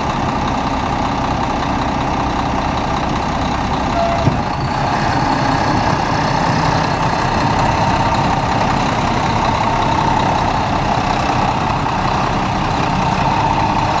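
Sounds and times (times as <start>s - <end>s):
diesel truck engine idling: 0.0s - 14.0s
constant whine: 2.2s - 14.0s.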